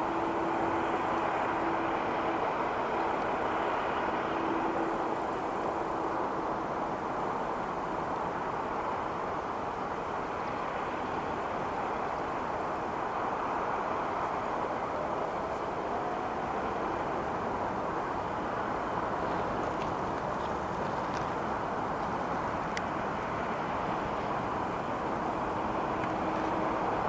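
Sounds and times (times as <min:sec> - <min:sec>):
jet engines roaring on takeoff: 0:00.0 - 0:27.0.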